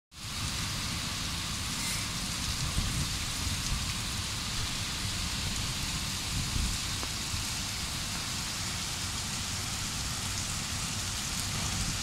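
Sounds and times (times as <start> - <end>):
heavy rain hiss: 0.1 - 12.0.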